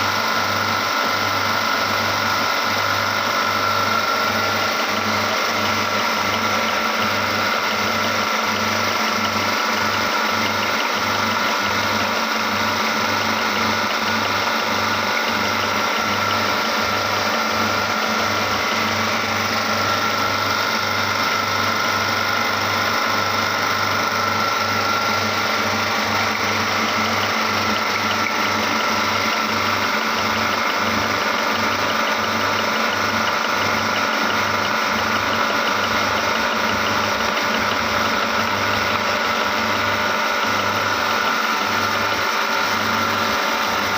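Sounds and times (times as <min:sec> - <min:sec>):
meat grinder motor whining: 0:00.0 - 0:43.9.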